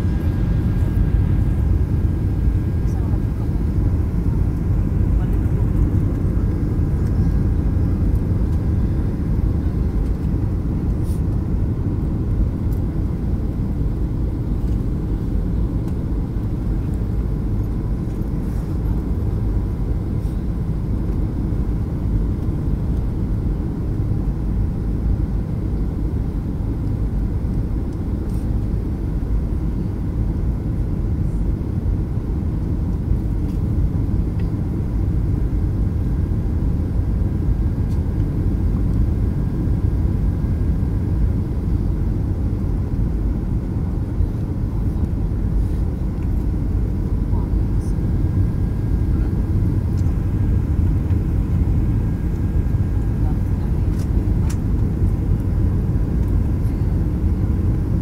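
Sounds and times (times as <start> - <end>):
faint steady whine: 0.0 - 58.0
low rumble of engines and airflow: 0.0 - 58.0.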